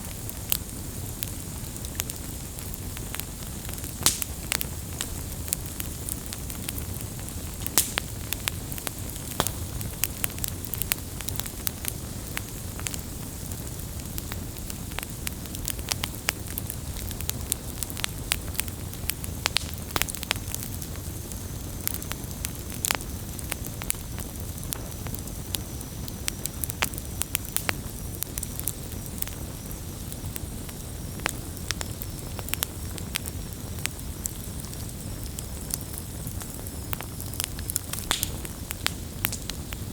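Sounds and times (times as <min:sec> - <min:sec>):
bonfire crackling and popping: 0:00.0 - 0:39.9
low rush of flame: 0:00.0 - 0:39.9.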